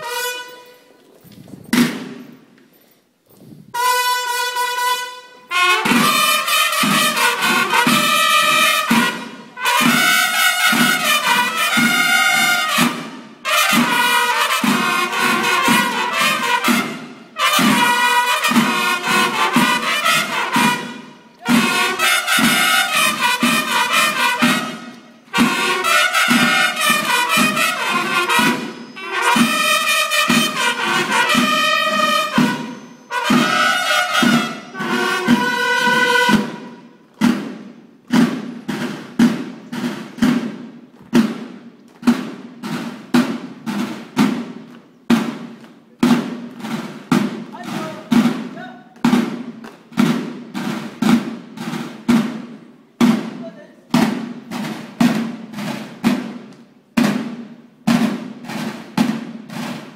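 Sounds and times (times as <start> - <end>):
bugles playing a march: 0.0 - 1.1, 3.8 - 59.9
steady drum beat: 5.6 - 59.9.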